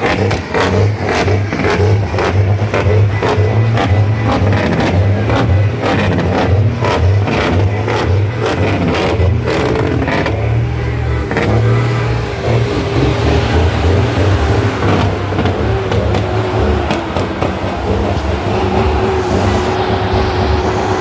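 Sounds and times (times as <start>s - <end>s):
sharp engine knocks: 0.0s - 10.6s, 11.3s - 21.0s
truck engine revving: 0.0s - 21.0s.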